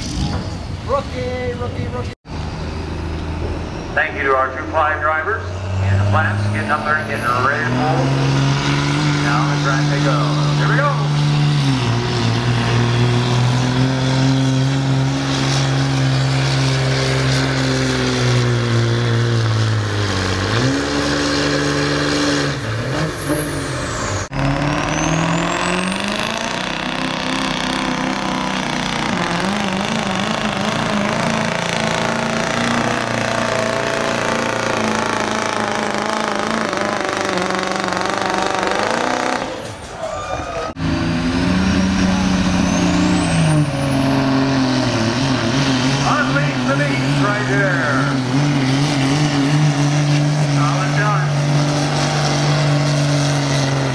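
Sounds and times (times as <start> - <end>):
diesel truck engines straining: 0.0 - 53.9.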